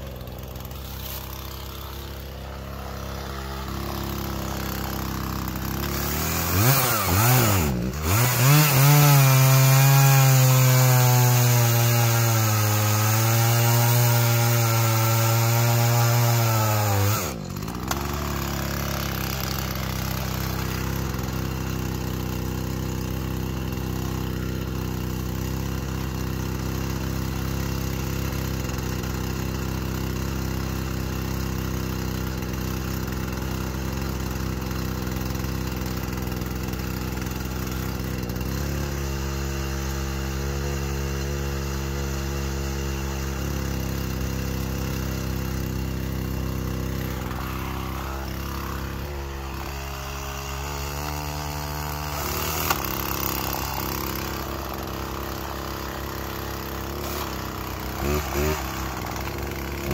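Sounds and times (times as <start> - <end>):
chainsaw cutting log: 0.0 - 59.9
chainsaw engine idling: 0.0 - 59.9.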